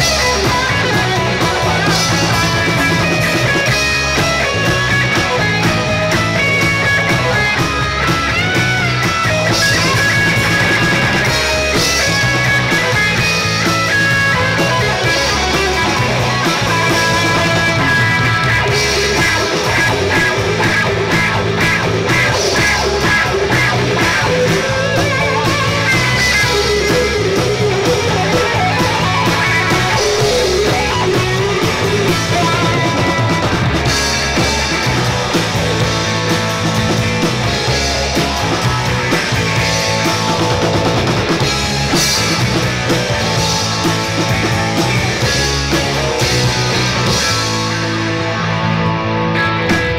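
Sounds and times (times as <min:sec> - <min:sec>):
drum kit: 0:00.0 - 0:49.9
electric guitars: 0:00.0 - 0:49.9.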